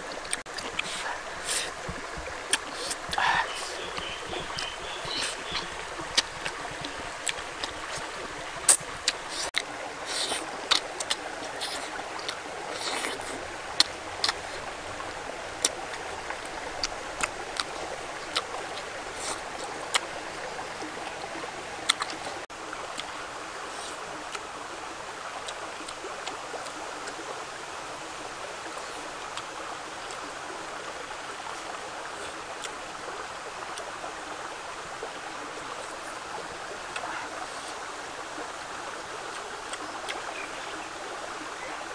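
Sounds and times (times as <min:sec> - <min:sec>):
stream flowing: 0:00.0 - 0:41.9.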